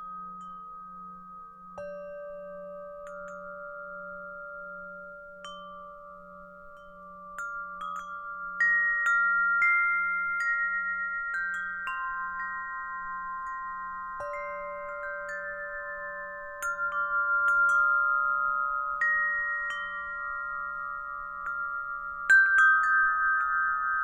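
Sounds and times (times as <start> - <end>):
wind chimes ringing: 0.0 - 24.0.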